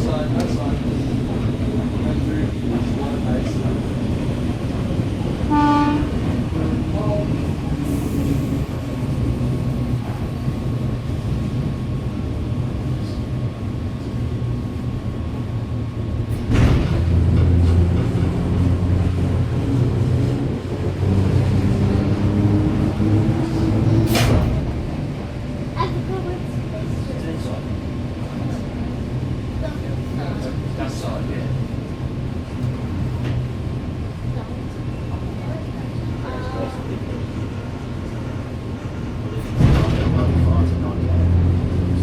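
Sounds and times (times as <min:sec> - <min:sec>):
train wheels and motors rumbling: 0:00.0 - 0:42.0.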